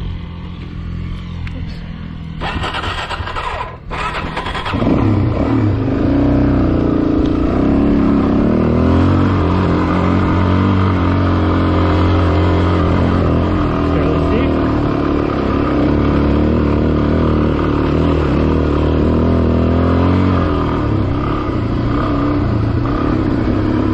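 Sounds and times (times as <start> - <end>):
motorcycle engine pulling uphill: 0.0 - 23.9.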